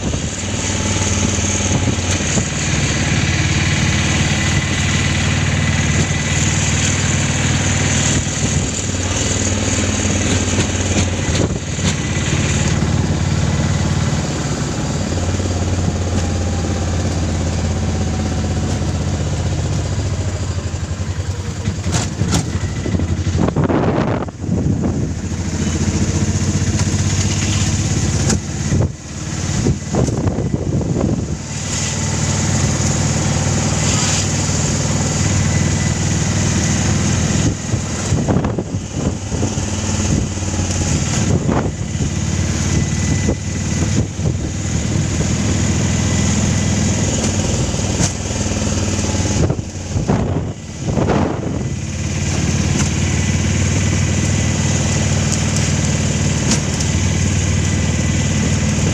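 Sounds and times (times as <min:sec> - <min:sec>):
constant rushing noise: 0:00.0 - 0:58.9
vehicle engine humming: 0:00.0 - 0:58.9.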